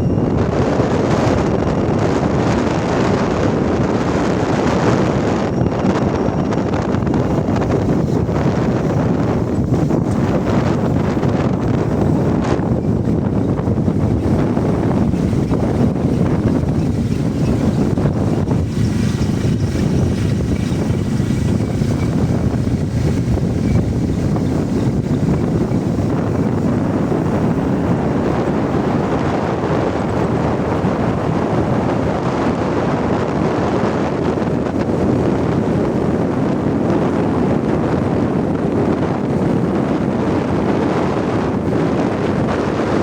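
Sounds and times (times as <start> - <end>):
dull vehicle rumble: 0.0 - 43.0
wind on microphone: 0.0 - 43.0.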